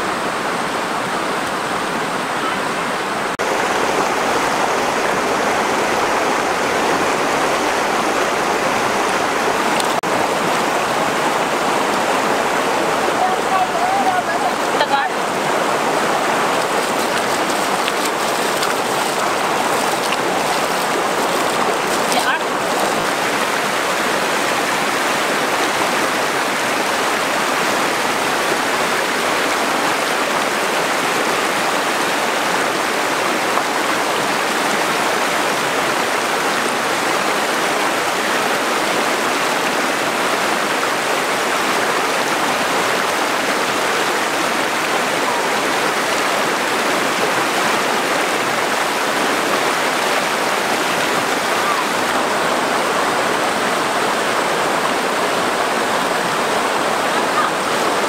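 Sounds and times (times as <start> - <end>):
river rushing over stones: 0.0 - 58.0.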